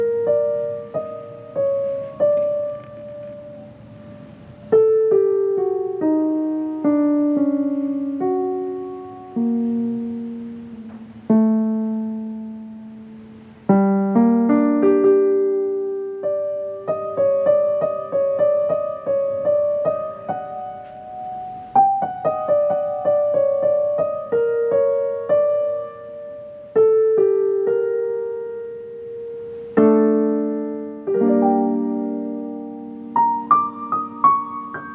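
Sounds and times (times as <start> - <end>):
solo piano melody: 0.0 - 34.9.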